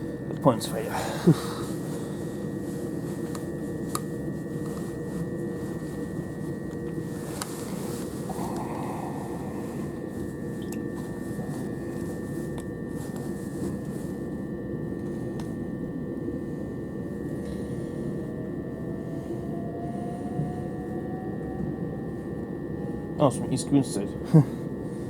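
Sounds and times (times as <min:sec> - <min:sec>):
high whine: 0:00.0 - 0:25.0
train low rumble: 0:00.0 - 0:25.0.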